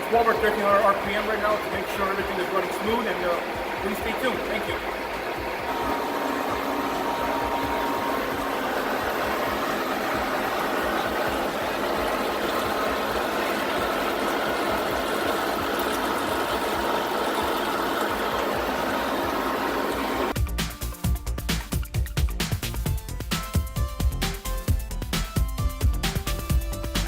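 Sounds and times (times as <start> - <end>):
music: 0.0 - 27.0.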